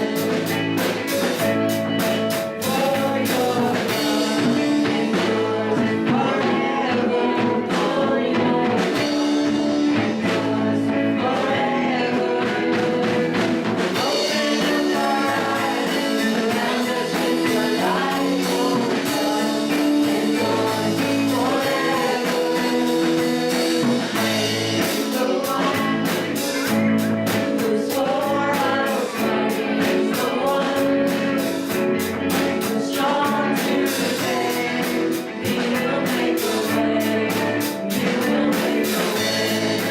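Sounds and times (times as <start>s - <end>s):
drum strokes: 0.0s - 39.9s
person singing with band: 0.0s - 39.9s.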